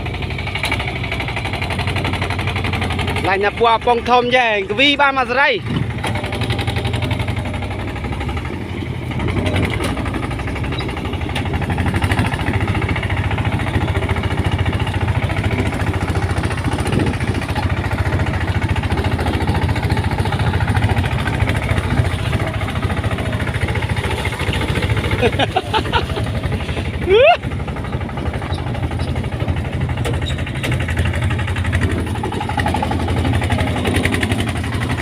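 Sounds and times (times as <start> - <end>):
farm machine engine running: 0.0 - 35.0.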